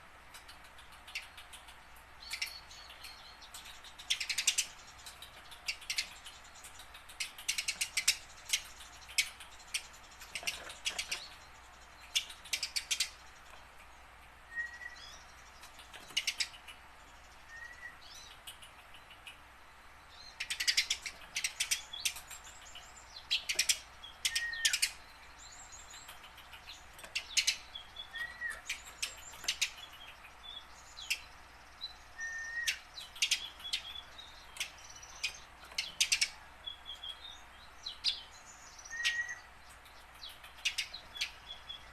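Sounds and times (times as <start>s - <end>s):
sparrow chirping: 0.3s - 41.9s.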